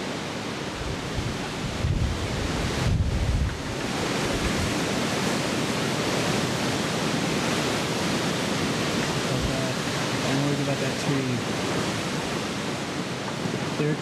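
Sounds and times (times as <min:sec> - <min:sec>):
storm wind blowing: 0:00.0 - 0:14.0
wind gusts buffeting microphone: 0:00.0 - 0:14.0.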